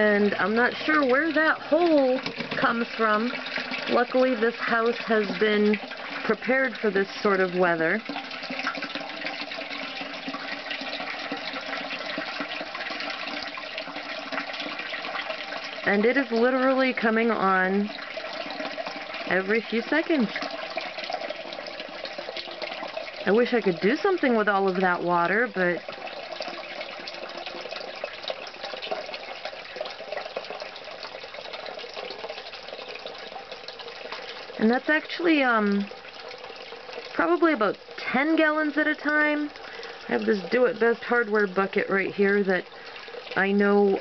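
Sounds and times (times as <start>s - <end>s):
water pouring and splashing: 0.0s - 44.0s.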